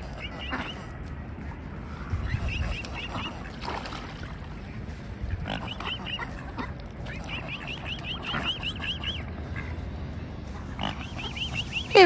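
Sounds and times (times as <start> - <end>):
swans and ducks calling: 0.0 - 12.0.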